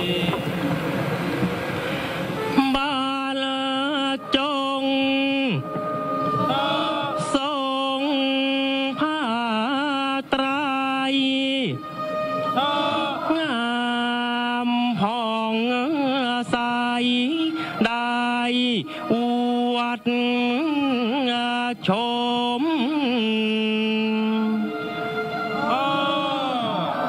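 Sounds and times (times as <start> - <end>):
person chanting held notes: 2.4 - 27.0.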